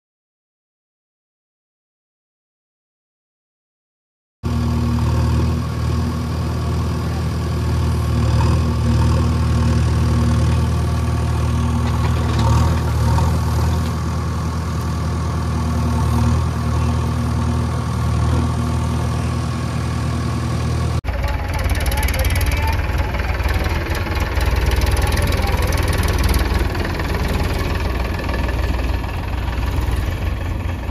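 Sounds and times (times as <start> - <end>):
diesel engine running: 4.4 - 30.9.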